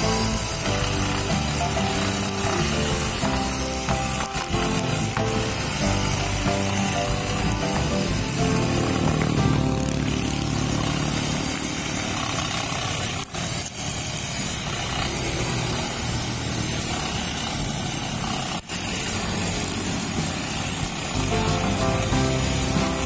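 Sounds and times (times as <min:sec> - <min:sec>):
brush cutter engine running: 0:00.0 - 0:23.0.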